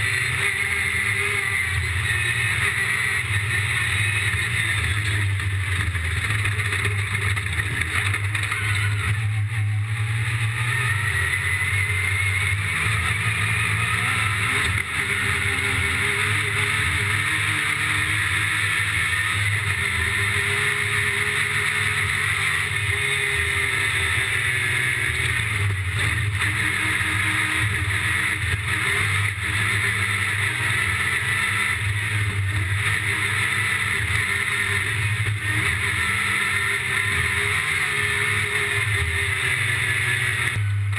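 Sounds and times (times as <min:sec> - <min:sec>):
engine running hard: 0:00.0 - 0:40.9.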